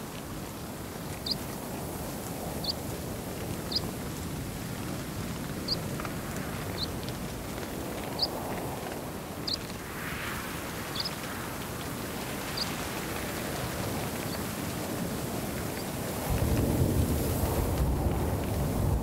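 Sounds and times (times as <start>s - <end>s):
steady outdoor weather hiss: 0.0s - 19.0s.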